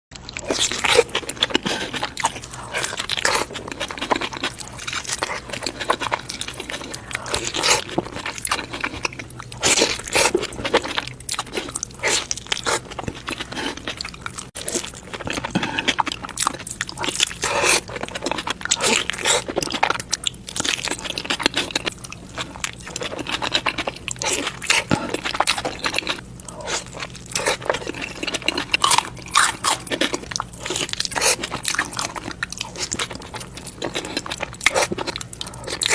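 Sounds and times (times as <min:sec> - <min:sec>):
chewing crunchy food: 0:00.2 - 0:35.9.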